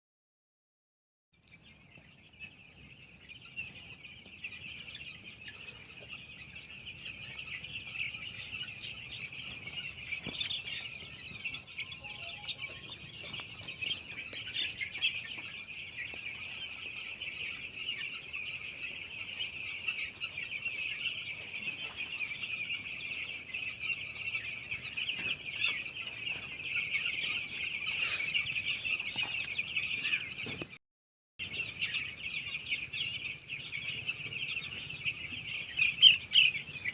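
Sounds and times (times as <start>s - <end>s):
baby chicks peeping: 1.4s - 30.8s, 31.4s - 36.9s.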